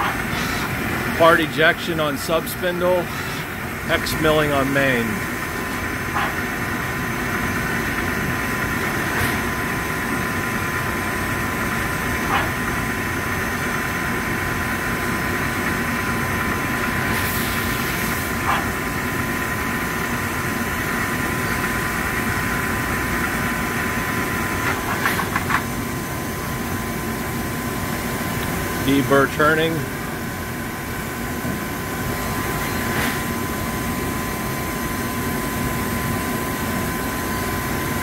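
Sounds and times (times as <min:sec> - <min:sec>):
lathe whirring with high whine: 0:00.0 - 0:38.0.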